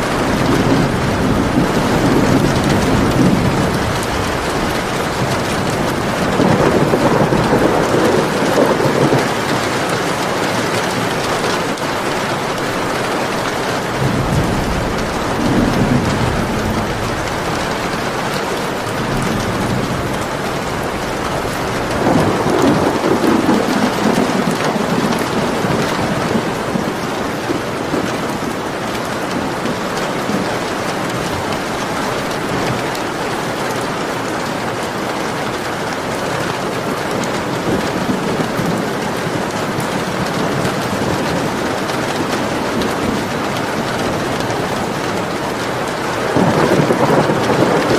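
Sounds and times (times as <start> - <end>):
steady rain falling: 0.0 - 47.9
thunder rumbling: 0.0 - 47.9.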